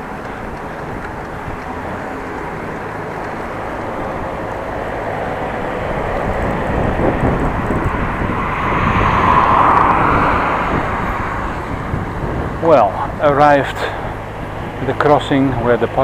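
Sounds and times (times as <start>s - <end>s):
road noise: 0.0s - 16.0s
wind noise on microphone: 0.0s - 16.0s.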